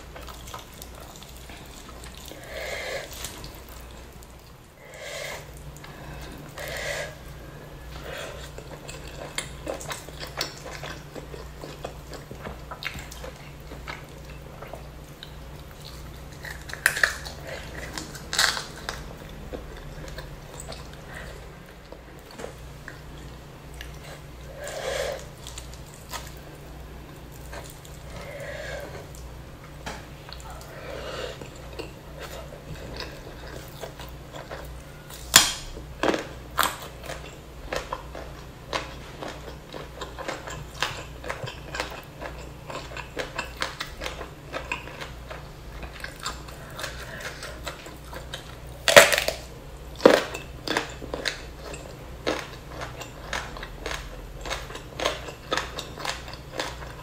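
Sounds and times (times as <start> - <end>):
chewing and lip-smacking: 0.0 - 4.7, 7.9 - 30.8, 31.4 - 35.2, 36.0 - 57.0
steady low hum: 0.0 - 57.0.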